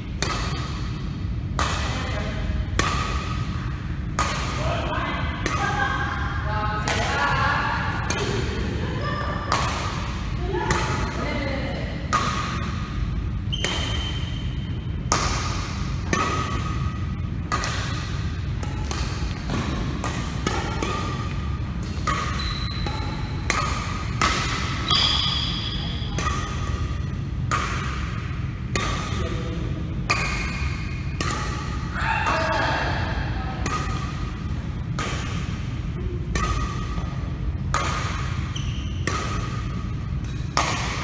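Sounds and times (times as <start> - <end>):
badminton racquets striking shuttlecock: 0.1 - 4.7, 5.3 - 5.8, 8.0 - 8.6, 9.4 - 11.2, 12.1 - 29.2, 30.0 - 32.5, 33.5 - 41.0.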